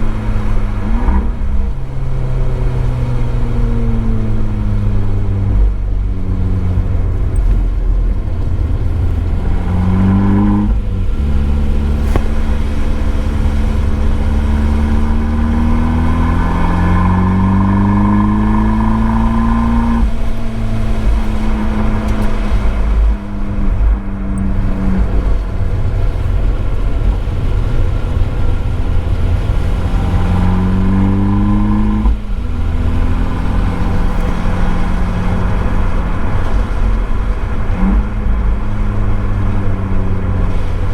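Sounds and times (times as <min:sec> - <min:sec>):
car engine revving and upshifting: 0:00.0 - 0:40.9.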